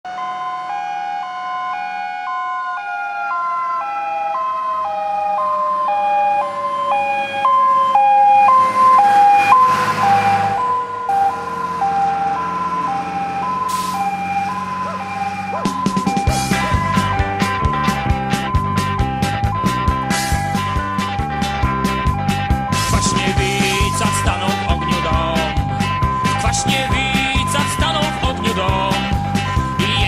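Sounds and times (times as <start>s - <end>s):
two-tone siren: 0.0s - 30.0s
lower siren tone falling: 0.1s - 30.0s
truck engine and tyre noise: 0.1s - 30.0s.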